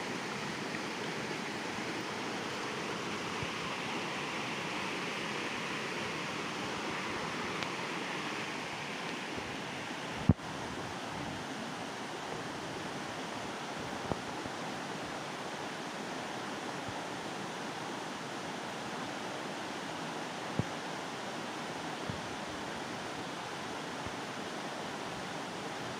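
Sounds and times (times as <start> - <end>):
steady rushing hiss: 0.0 - 25.9.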